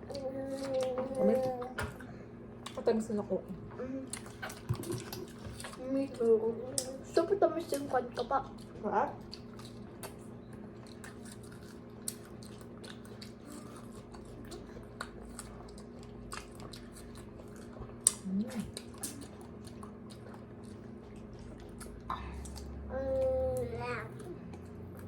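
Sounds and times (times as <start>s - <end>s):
chewing strawberries: 0.0s - 2.9s, 3.9s - 25.0s
steady low hum: 0.0s - 25.0s.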